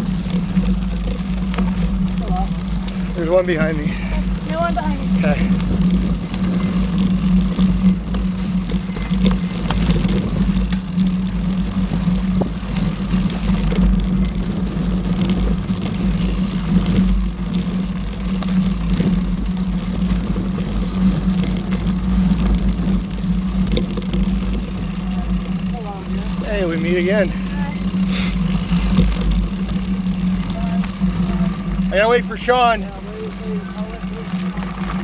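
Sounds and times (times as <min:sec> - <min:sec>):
wind rumble on microphone: 0:00.0 - 0:32.2
bike tyre noise: 0:00.0 - 0:35.0
constant low hum: 0:00.0 - 0:35.0.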